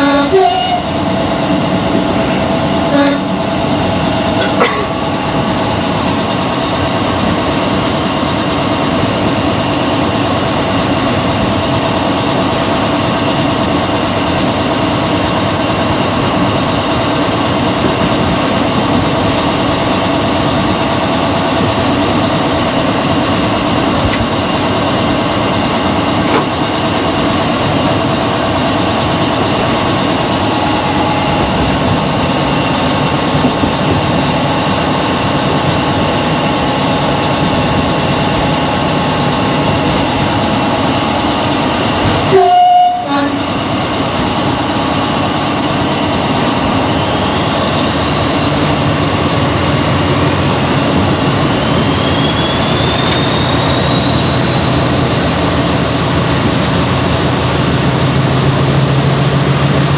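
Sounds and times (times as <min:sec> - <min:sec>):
diesel locomotive running: 0:00.0 - 0:59.9
train running noise: 0:00.0 - 0:59.9.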